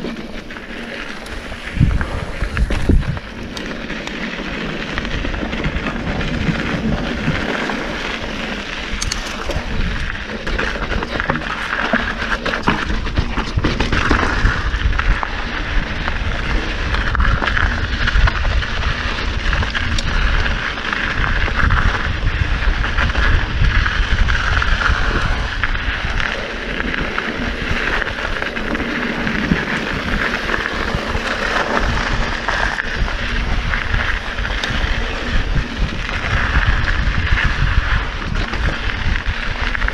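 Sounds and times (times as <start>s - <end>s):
mountain bike rumbling and rattling: 0.0s - 39.9s
wind buffeting microphone: 0.0s - 39.9s.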